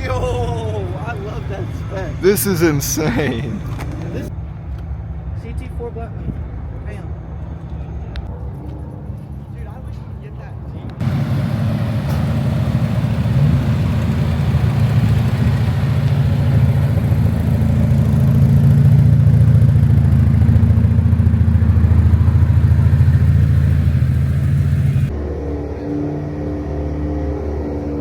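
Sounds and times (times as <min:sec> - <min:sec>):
car engine exhaust drone: 0:00.0 - 0:05.5, 0:11.0 - 0:28.0.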